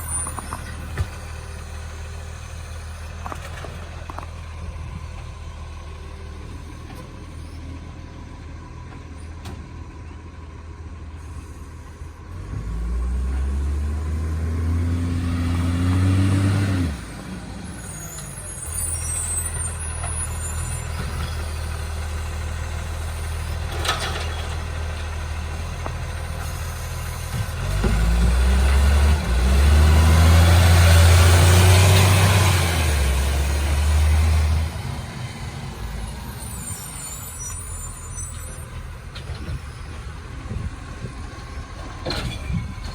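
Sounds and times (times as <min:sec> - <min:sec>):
diesel truck engine revving: 0:00.0 - 0:42.9.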